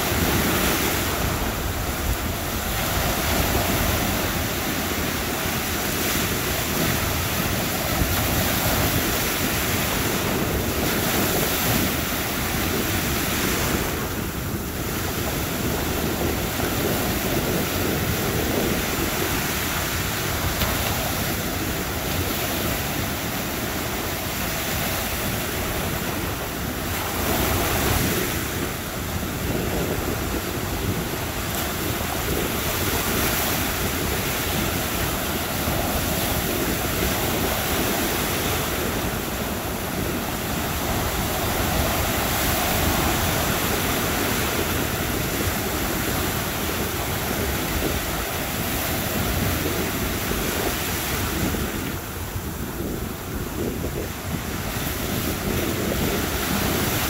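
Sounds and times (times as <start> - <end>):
surf breaking on sandy beach: 0.0 - 57.0.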